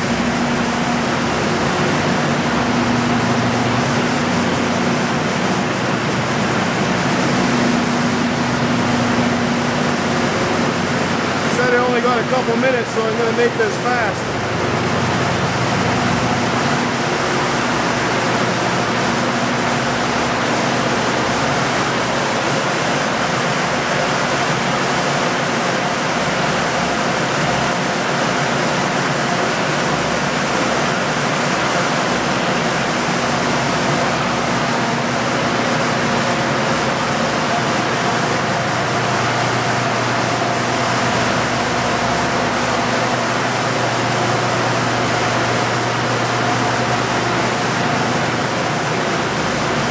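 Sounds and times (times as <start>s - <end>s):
low generator hum: 0.0s - 24.7s, 29.8s - 49.9s
water turbines rushing: 0.0s - 49.9s.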